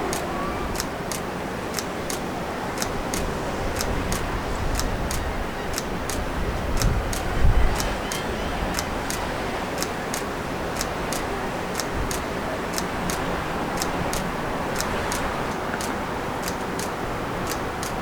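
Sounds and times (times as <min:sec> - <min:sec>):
turn signal ticking: 0:00.0 - 0:18.0.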